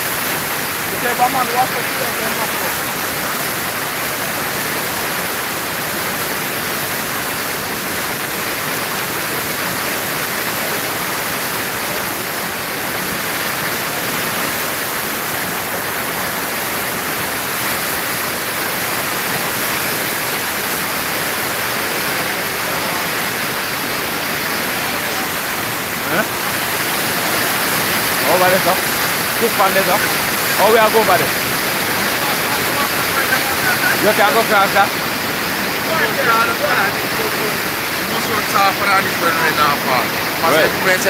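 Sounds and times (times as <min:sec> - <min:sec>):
river rushing over boulders: 0:00.0 - 0:41.0.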